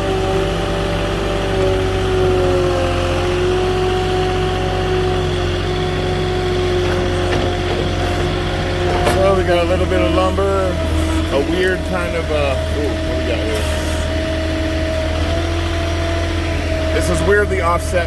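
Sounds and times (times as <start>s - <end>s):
forklift engine droning: 0.0s - 18.0s
steady whine: 0.0s - 18.0s.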